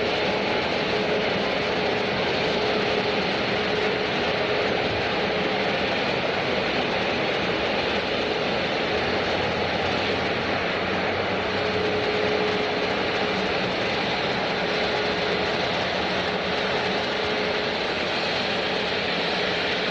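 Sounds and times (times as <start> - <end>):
jet engines rushing: 0.0 - 19.9.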